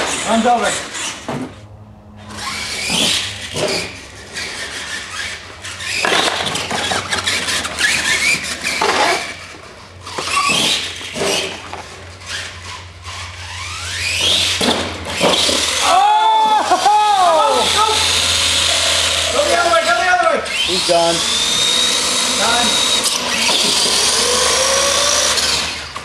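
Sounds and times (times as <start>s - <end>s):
toy truck motors whining: 0.0s - 1.6s, 2.2s - 26.0s.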